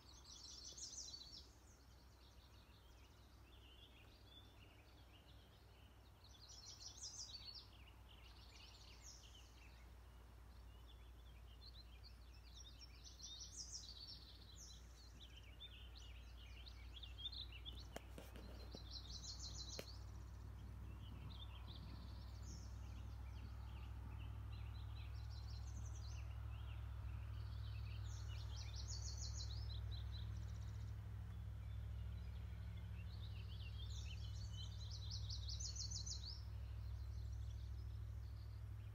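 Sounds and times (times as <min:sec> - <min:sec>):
low outdoor rumble: 0:00.0 - 0:38.9
songbirds trilling: 0:00.0 - 0:38.9.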